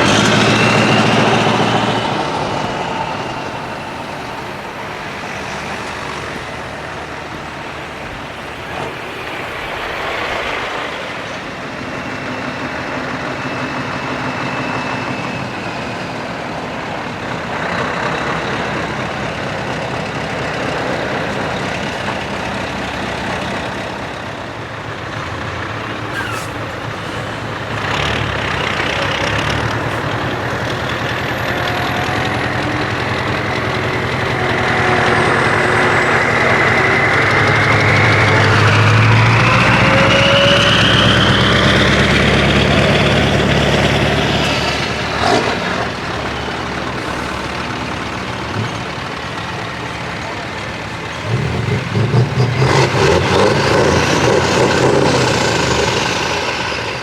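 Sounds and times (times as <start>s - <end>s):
truck engines driving past: 0.0s - 57.0s.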